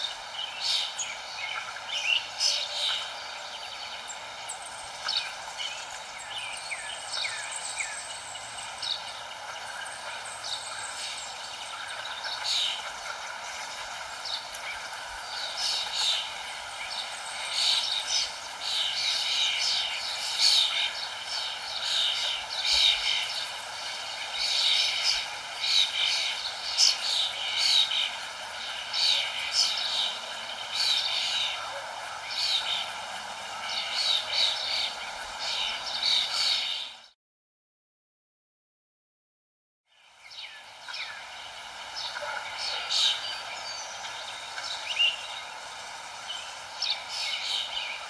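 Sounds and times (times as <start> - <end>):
birds chirping: 0.0 - 37.1, 40.0 - 48.0.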